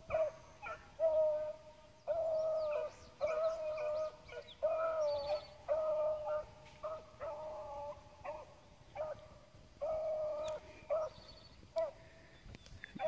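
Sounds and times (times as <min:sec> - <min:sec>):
hounds baying: 0:00.0 - 0:12.2.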